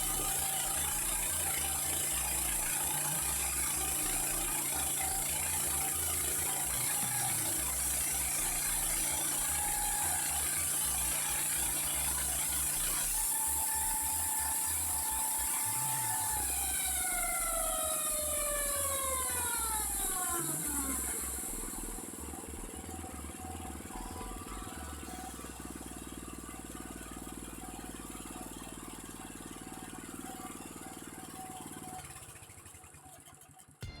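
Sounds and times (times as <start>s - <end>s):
motor winding down: 0.0s - 34.0s.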